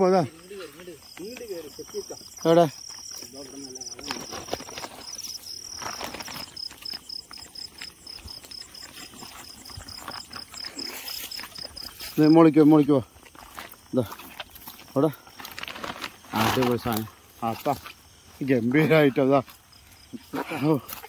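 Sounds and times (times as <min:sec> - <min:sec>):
insects chirping: 0:00.0 - 0:21.0
rustling underfoot: 0:00.0 - 0:21.0.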